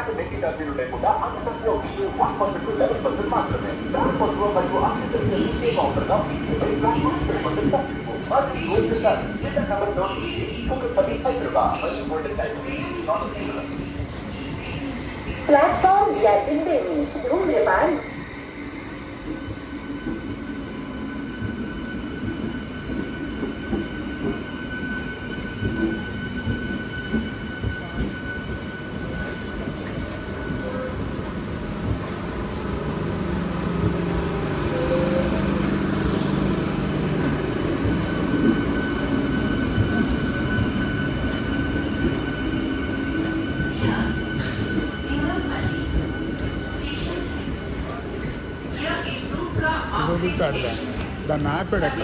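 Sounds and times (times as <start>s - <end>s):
rumble of train wheels on rails: 0.0s - 52.0s.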